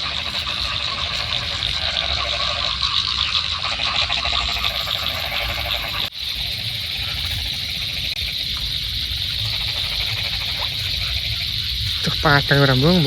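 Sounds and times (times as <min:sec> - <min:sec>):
frogs calling: 0:00.0 - 0:13.0
insects calling: 0:00.0 - 0:13.0
low rumble: 0:00.0 - 0:13.0.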